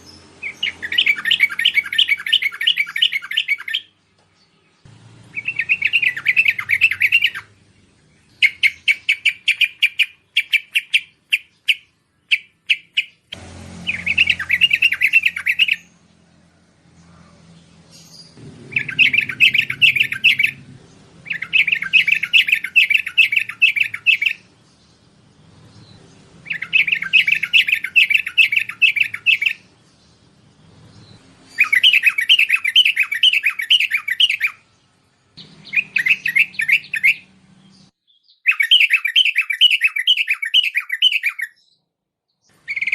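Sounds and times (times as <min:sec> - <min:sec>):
bulbul chattering song: 0:00.0 - 0:41.8, 0:42.4 - 0:42.9.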